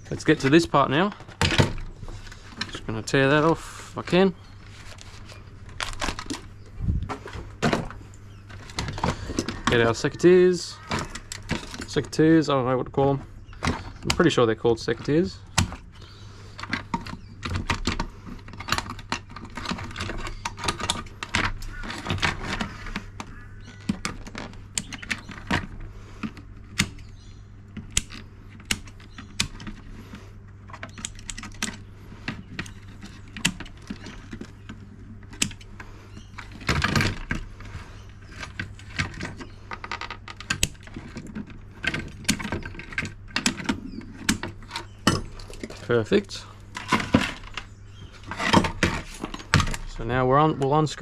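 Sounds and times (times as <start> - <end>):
parts rattling: 0.0 - 51.0.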